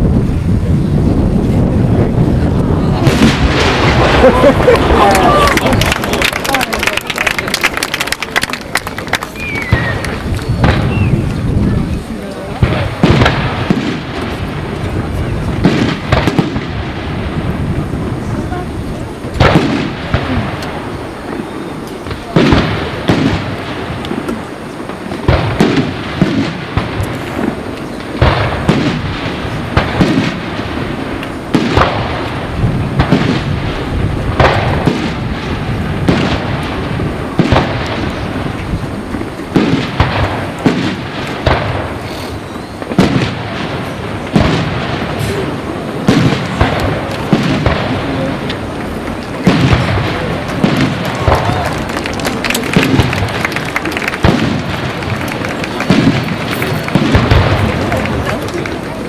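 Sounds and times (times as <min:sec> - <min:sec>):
fireworks crackling: 0:00.0 - 0:59.0
firework shells bursting: 0:02.2 - 0:59.0.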